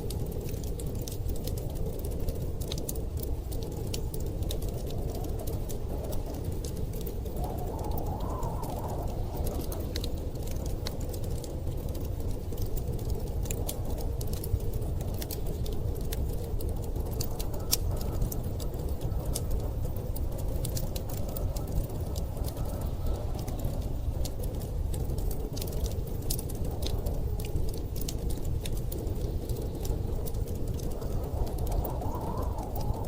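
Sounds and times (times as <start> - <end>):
low rumble of storm wind: 0.0 - 33.0
wind howling: 0.0 - 33.0
wood fire crackling: 0.0 - 33.0.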